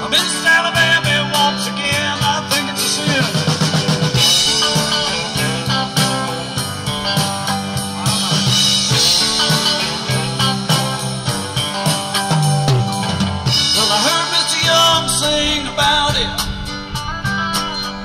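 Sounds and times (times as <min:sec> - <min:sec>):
instrumental rock music: 0:00.0 - 0:18.0.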